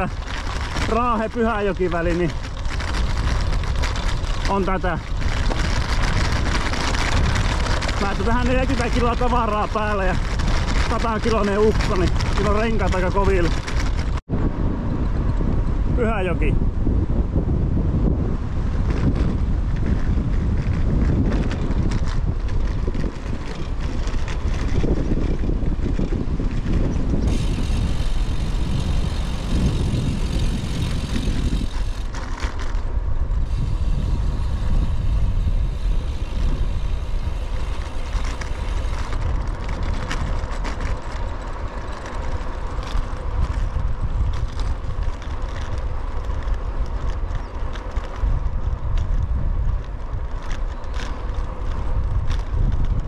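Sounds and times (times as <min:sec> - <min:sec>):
tyres rumbling on road: 0:00.0 - 0:16.0, 0:16.6 - 0:53.0
bicycle clicks and rattles: 0:00.0 - 0:16.5, 0:18.0 - 0:53.0
wind on microphone: 0:00.0 - 0:53.0.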